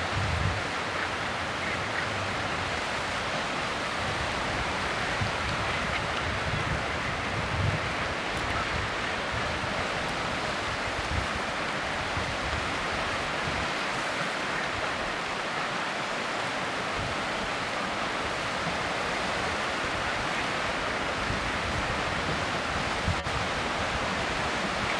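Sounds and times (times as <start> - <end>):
wind rumble on microphone: 0.0 - 16.1, 16.8 - 24.9.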